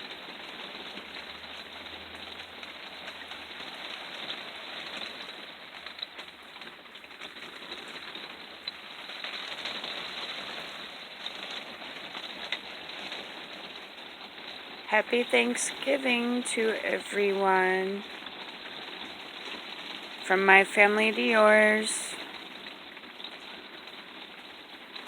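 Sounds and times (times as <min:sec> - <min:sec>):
rain falling on a vehicle roof: 0:00.0 - 0:14.9, 0:17.8 - 0:25.0.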